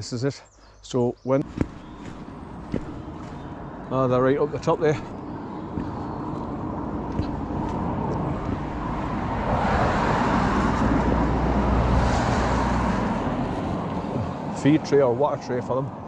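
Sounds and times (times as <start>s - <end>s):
car passing by: 1.6s - 15.0s.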